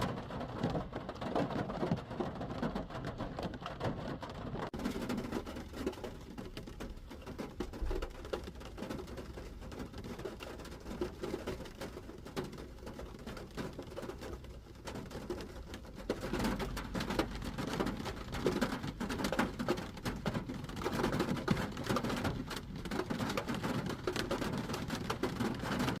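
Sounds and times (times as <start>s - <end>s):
rain on a car roof: 0.0s - 26.0s.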